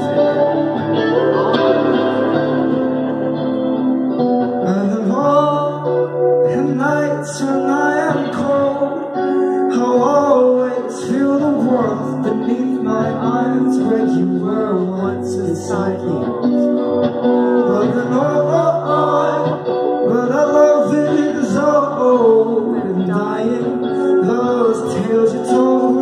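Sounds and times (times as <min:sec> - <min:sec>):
man singing: 0:00.0 - 0:01.6, 0:04.5 - 0:26.0
bass guitar: 0:00.0 - 0:26.0
electric guitar: 0:00.0 - 0:26.0.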